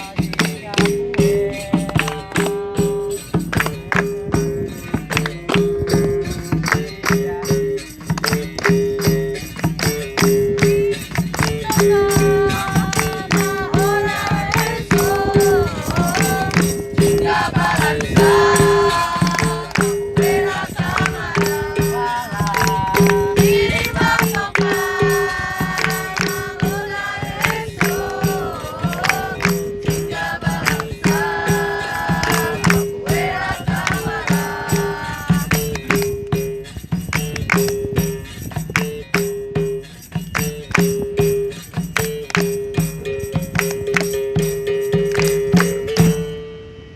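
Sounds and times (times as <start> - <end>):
tambourine jingles: 0.0 - 46.3.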